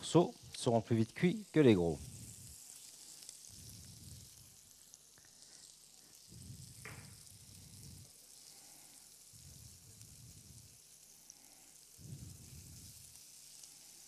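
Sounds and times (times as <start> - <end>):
meat sizzling in butter: 0.0 - 14.0.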